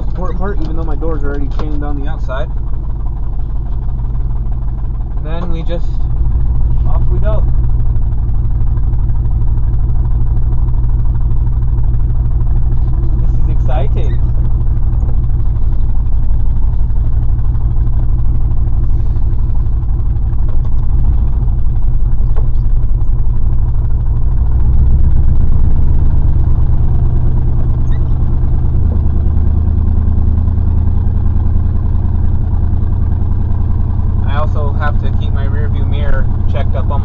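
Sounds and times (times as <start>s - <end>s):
pickup truck engine running rough: 0.0s - 37.0s.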